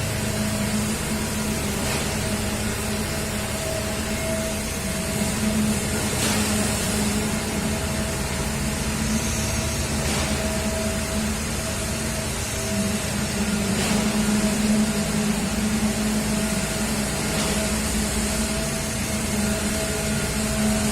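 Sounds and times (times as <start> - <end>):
concrete pump engine drone: 0.0 - 20.9.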